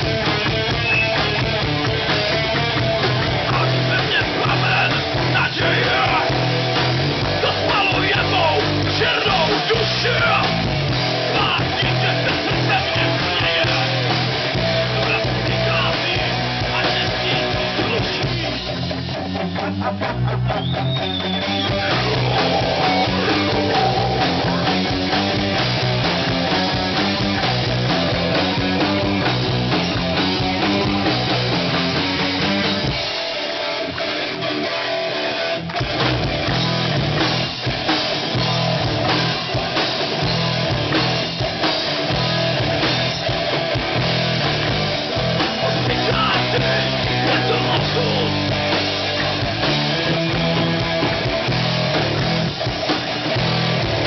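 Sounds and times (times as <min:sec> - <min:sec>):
rock band playing loud: 0:00.0 - 0:54.0.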